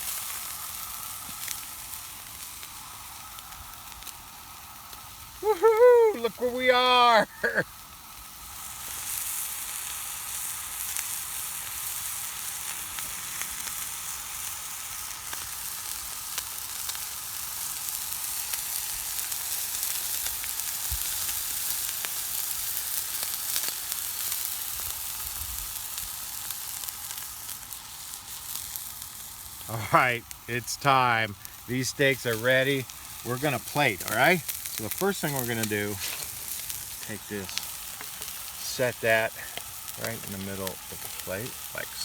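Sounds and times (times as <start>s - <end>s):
steaks sizzling on a griddle: 0.0s - 42.0s.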